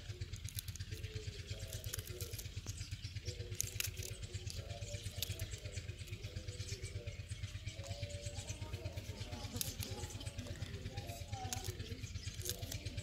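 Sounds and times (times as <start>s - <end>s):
low throbbing hum: 0.0s - 13.0s.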